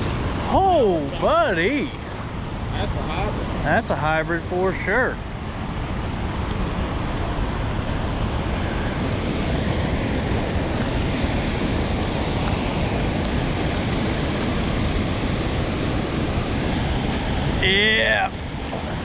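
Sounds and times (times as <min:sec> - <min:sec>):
water rushing through floodgates: 0:00.0 - 0:19.0.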